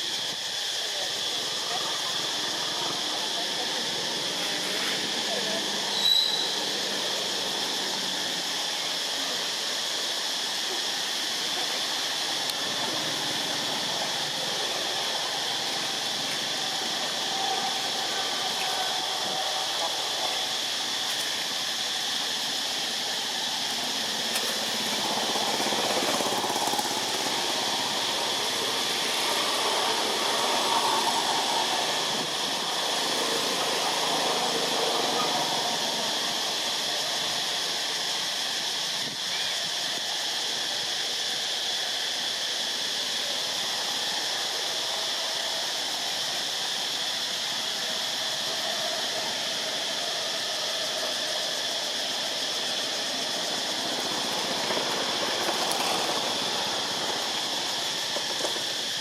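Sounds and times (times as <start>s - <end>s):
continuous hiss: 0.0s - 59.0s.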